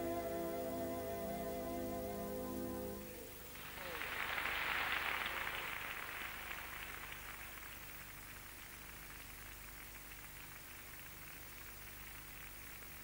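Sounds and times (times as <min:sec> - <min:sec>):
crackly film soundtrack hiss: 0:00.0 - 0:13.0.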